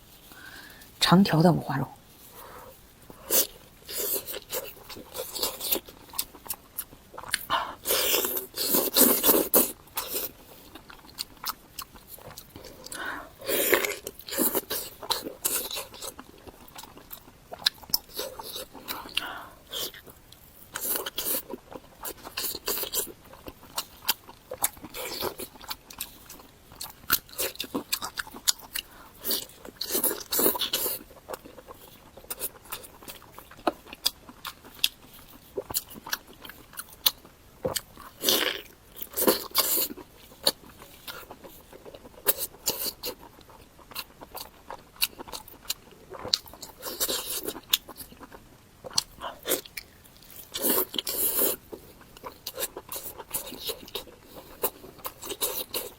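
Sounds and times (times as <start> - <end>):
crunching bites and chewing: 3.0 - 55.9.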